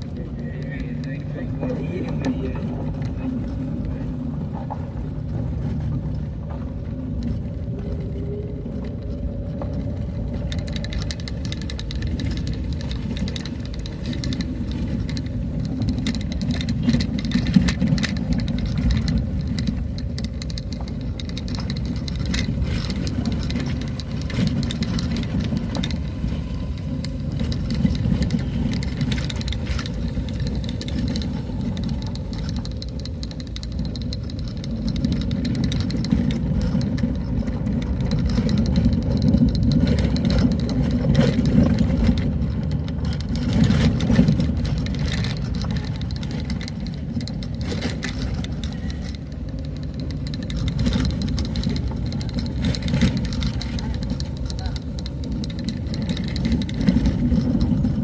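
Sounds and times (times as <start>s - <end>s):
clicks and rattles: 0.0s - 58.0s
vehicle engine running: 0.0s - 58.0s.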